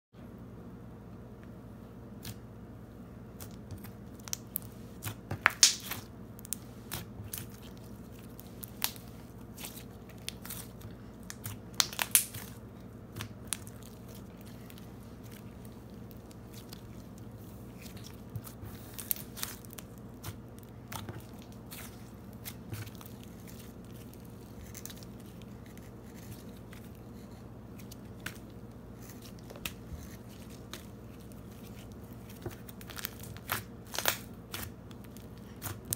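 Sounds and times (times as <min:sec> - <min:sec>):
faint steady hum: 0:00.2 - 0:35.9
sticky slime crackles and pops: 0:03.4 - 0:27.0, 0:27.8 - 0:35.9.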